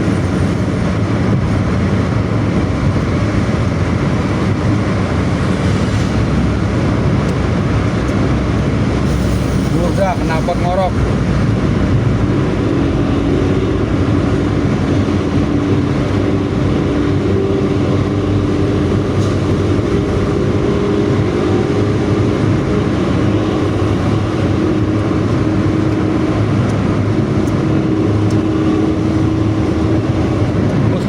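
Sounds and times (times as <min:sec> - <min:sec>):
bus engine drone: 0:00.0 - 0:31.0.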